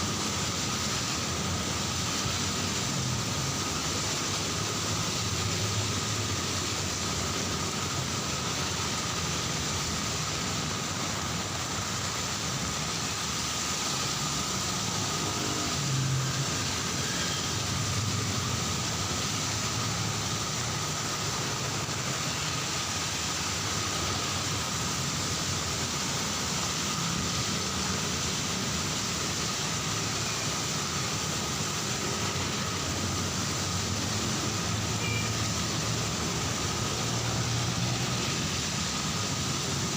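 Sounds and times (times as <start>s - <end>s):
heavy rain falling: 0.0s - 39.9s
road traffic rumbling: 0.0s - 39.9s.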